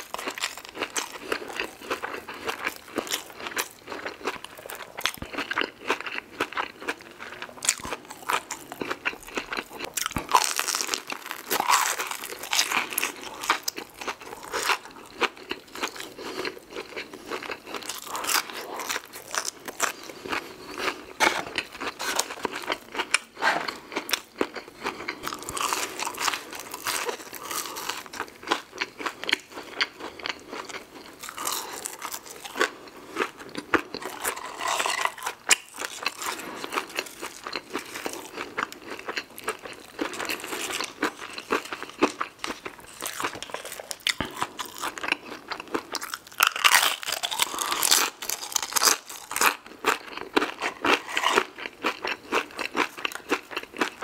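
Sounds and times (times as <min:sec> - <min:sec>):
crunching crisp fried food: 0:00.0 - 0:54.0.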